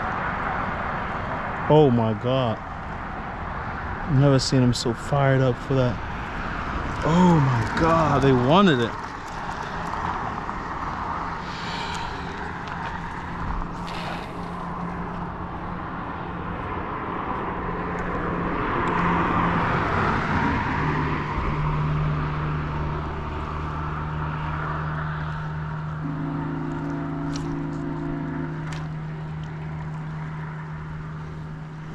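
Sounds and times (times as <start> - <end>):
road traffic engine hum: 0.0 - 31.9
vehicle passing: 0.0 - 31.9.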